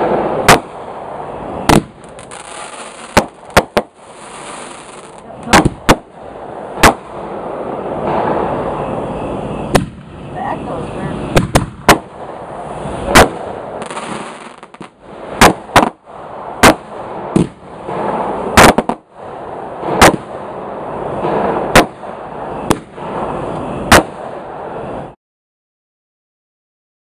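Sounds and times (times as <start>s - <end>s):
fireworks bangs: 0.0s - 25.2s.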